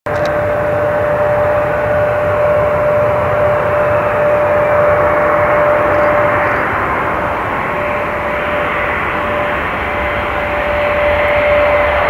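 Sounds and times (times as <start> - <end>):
constant engine tone: 0.0 - 12.0
jet engine noise: 0.1 - 12.0.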